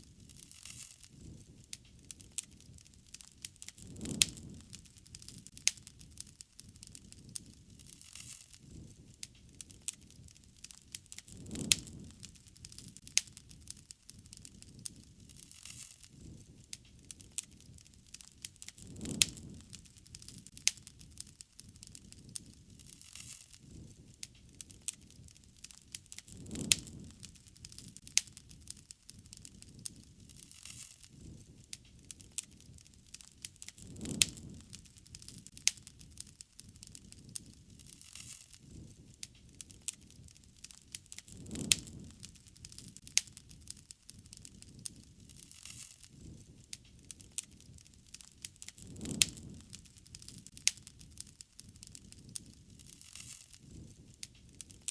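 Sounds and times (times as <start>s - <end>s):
fire sharp pops: 0.0s - 54.9s
low rumble of burning: 0.0s - 54.9s.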